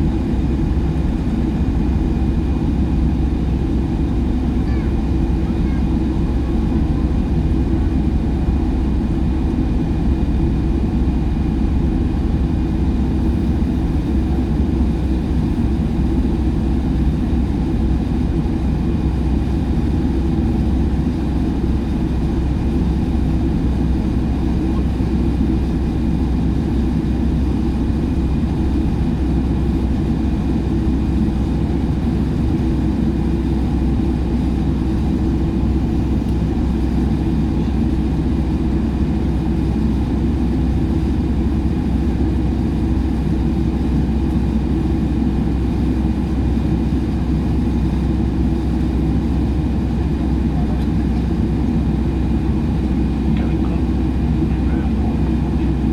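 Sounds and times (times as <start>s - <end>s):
airliner low rumble: 0.0s - 55.9s.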